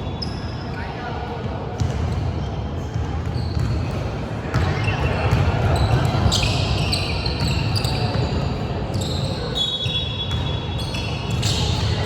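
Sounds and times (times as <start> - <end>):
echoing hall background noise: 0.0 - 12.0
basketball bouncing on court: 1.8 - 12.0.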